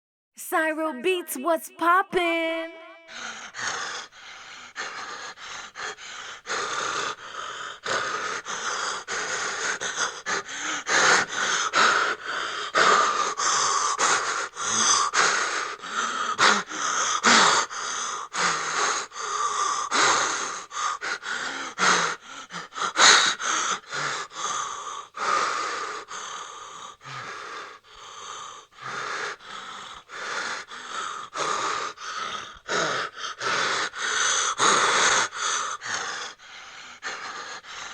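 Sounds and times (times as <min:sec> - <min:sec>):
person gasping and wheezing: 0:03.0 - 0:37.9.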